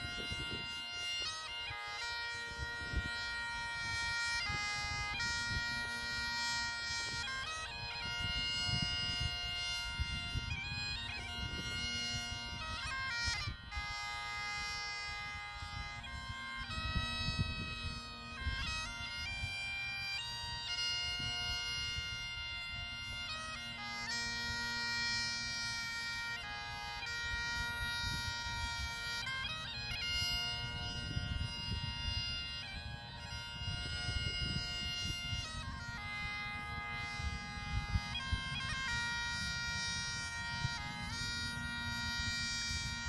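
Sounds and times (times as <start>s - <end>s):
bagpipes playing a tune: 0.0s - 43.0s.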